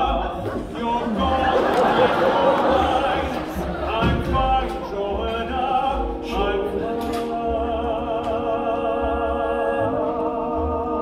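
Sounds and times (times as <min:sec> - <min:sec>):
orchestral accompaniment: 0:00.0 - 0:11.0
person singing with vibrato: 0:00.0 - 0:11.0.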